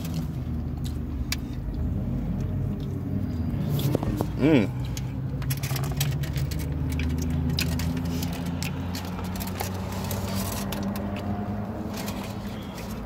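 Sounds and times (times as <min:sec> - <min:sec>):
person chewing: 0:00.0 - 0:11.2.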